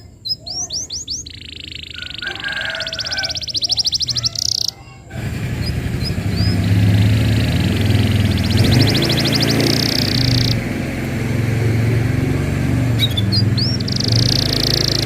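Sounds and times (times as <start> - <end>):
faint bird chirps: 0.0 - 10.7, 12.9 - 15.0
canary singing: 0.0 - 15.0.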